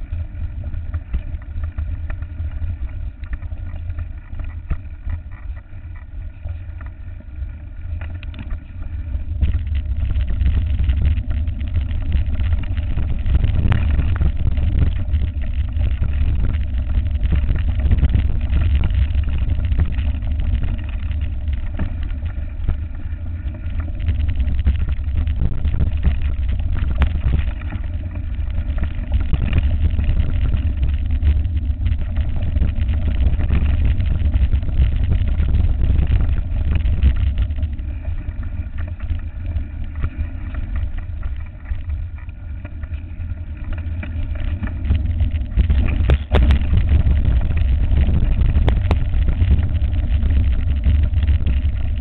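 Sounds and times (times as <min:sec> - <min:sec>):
wind rumble on camera: 0:00.0 - 0:52.0.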